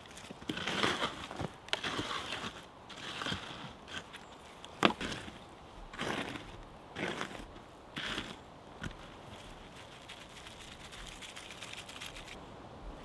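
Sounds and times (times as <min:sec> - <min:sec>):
gritty scraping of ash: 0:00.0 - 0:12.2.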